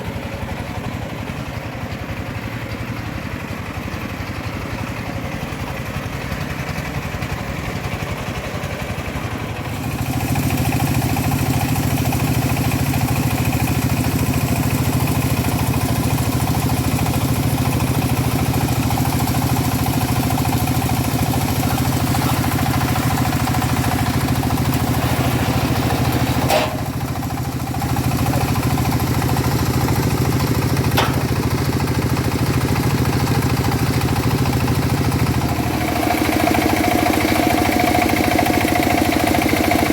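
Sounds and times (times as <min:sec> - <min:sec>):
sawmill engine sawing wood: 0:00.0 - 0:39.9.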